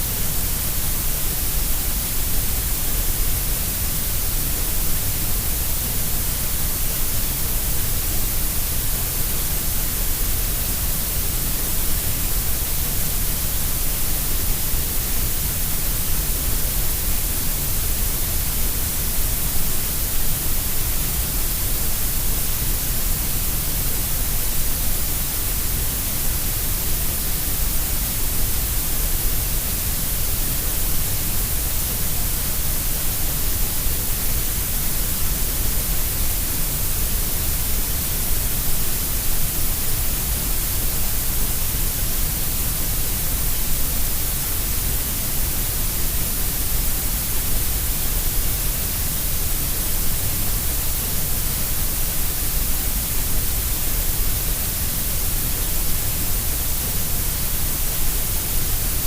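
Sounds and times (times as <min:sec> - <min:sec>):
steady grey noise hiss: 0:00.0 - 0:59.0.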